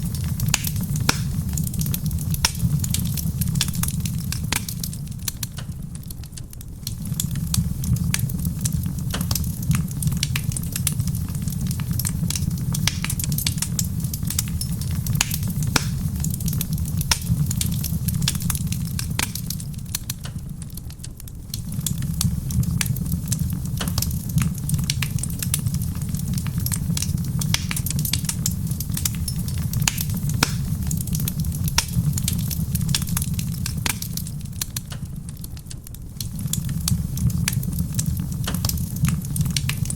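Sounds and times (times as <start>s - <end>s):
soft rain on a roof: 0.0s - 39.9s
steady low rumble: 0.0s - 39.9s
wood fire crackling and popping: 0.0s - 39.9s.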